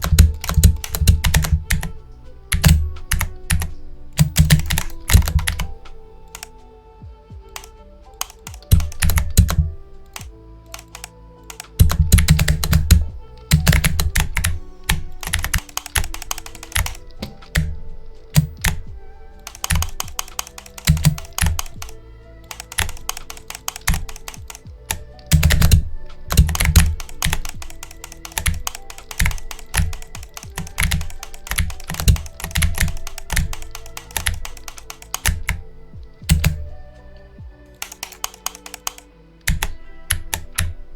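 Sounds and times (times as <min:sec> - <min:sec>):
clicky keyboard typing: 0:00.0 - 0:06.6, 0:07.5 - 0:36.7, 0:37.7 - 0:40.8
background music: 0:00.0 - 0:40.9.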